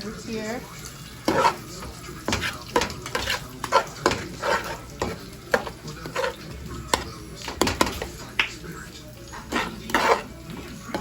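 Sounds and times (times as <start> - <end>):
meat sizzling in a pan: 0.0 - 11.0
utensil scraping a pan: 1.1 - 8.4, 9.3 - 11.0.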